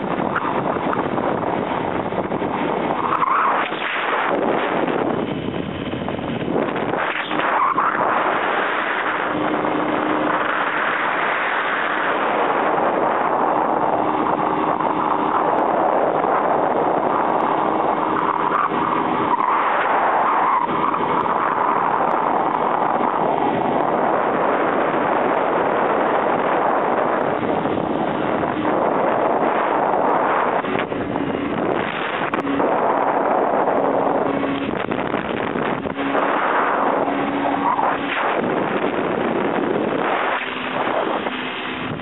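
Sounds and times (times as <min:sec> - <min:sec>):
vehicle engine and tyre noise: 0:00.0 - 0:42.0
wind over microphone: 0:00.0 - 0:42.0.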